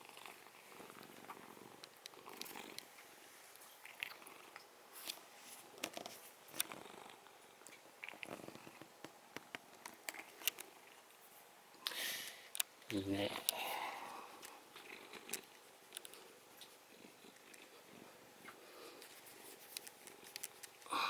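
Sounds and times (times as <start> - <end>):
cat purring: 0.0 - 11.2, 14.2 - 21.0
small clicks and rustles: 0.1 - 13.6, 14.4 - 20.9.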